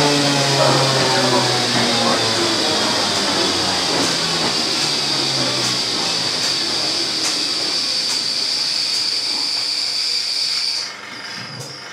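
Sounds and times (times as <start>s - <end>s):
train car high whine: 0.0s - 11.9s
train hiss and rumble: 0.0s - 11.9s.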